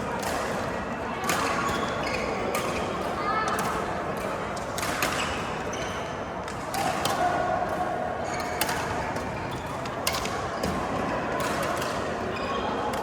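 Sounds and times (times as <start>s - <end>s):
steady background noise: 0.0s - 13.0s
rackets hitting shuttlecock: 0.2s - 5.6s, 6.5s - 12.3s.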